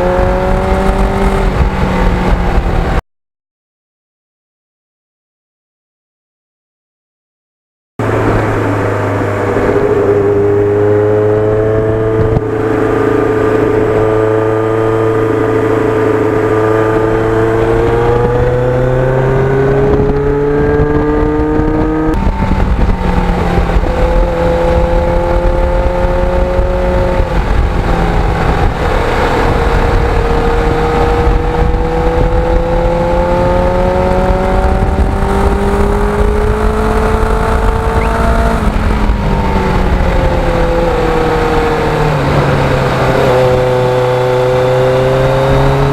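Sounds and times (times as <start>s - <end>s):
motorcycle engine accelerating: 0.0s - 3.0s, 8.0s - 45.9s
wind rushing past microphone: 0.0s - 3.0s, 8.0s - 45.9s.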